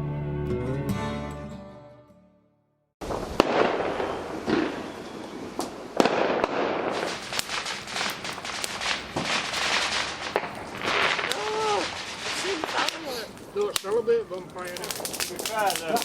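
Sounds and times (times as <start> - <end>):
firework bangs and pops: 3.0 - 16.0
firework crackle: 3.0 - 16.0.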